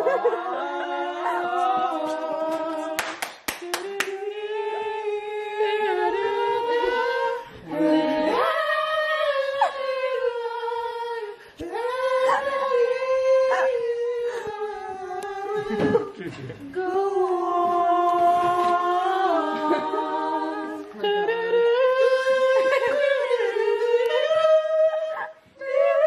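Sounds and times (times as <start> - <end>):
person singing long sliding notes: 0.0 - 26.0.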